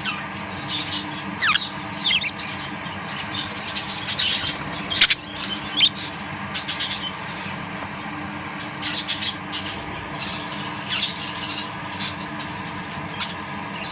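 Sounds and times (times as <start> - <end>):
budgerigars squawking and chirping: 0.0 - 7.9, 8.5 - 13.9.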